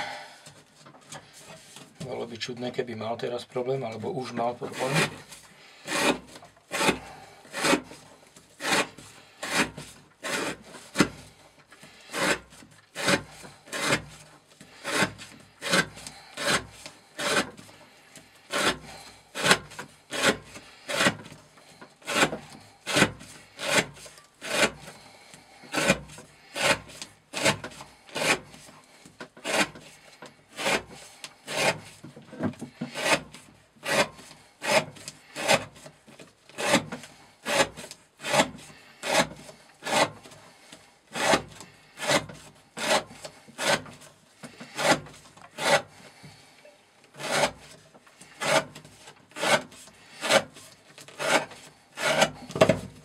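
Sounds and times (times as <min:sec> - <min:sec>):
knife shaving wood: 0:03.8 - 0:53.0.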